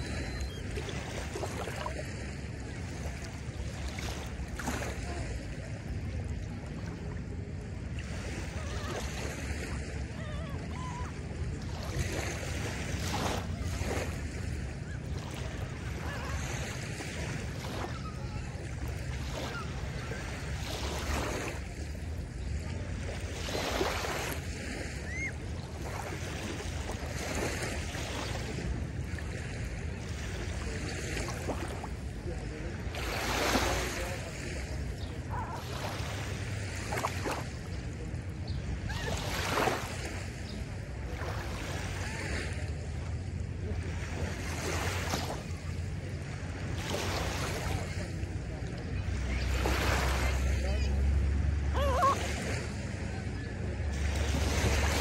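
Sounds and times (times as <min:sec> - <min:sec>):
waves lapping on sandy shore: 0:00.0 - 0:55.0.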